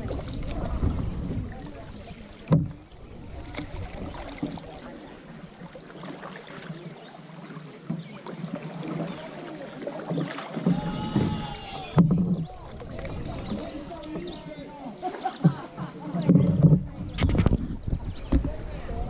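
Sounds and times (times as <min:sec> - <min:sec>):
paddle splashing water: 0:00.0 - 0:19.0.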